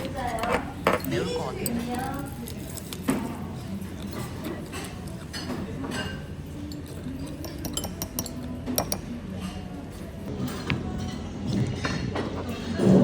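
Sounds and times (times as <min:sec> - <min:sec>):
cutlery clinking against dishes: 0:00.0 - 0:13.0.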